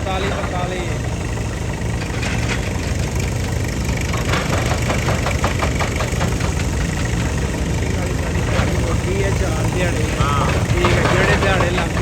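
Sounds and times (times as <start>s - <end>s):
excavator engine rumbling: 0.0s - 12.0s.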